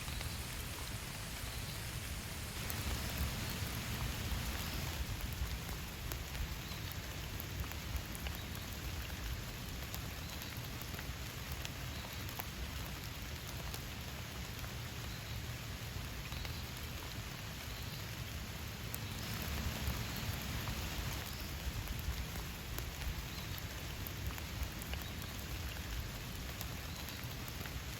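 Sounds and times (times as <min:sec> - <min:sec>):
raindrops ticking on a surface: 0:00.0 - 0:27.9
steady rain hissing: 0:00.0 - 0:27.9.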